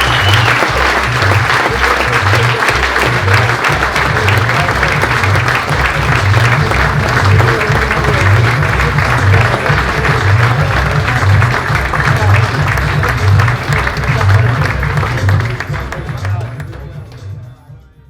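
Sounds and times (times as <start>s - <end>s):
audience applauding: 0.0s - 17.2s
music with steady bass beat: 0.0s - 18.0s.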